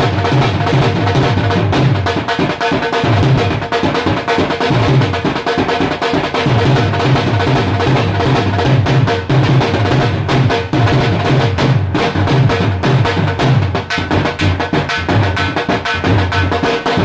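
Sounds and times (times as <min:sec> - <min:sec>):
dhol drumming: 0:00.0 - 0:17.0.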